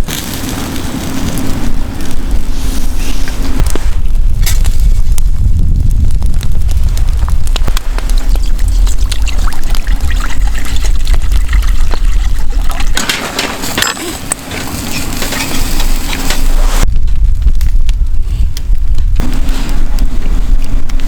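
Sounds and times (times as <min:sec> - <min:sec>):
wind rumbling on microphone: 0:00.0 - 0:21.0
wood fire crackling: 0:00.0 - 0:21.0.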